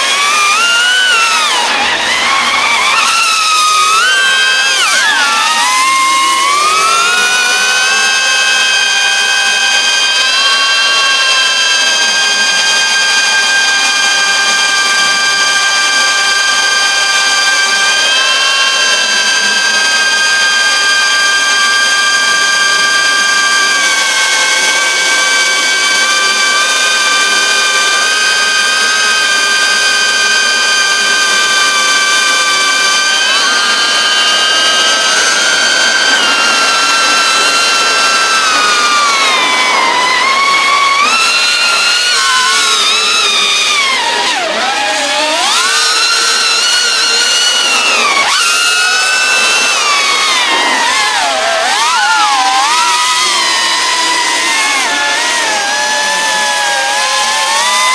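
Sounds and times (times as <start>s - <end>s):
drone motors whining: 0.0s - 57.9s.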